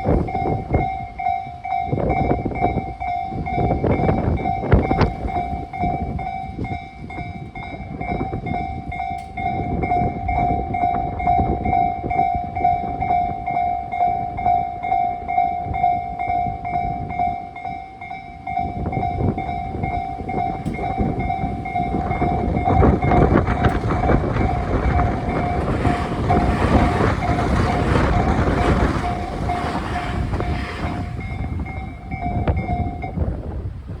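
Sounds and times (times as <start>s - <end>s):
level crossing warning bell: 0.0s - 33.6s
train wheels rumbling on rails: 0.0s - 34.0s.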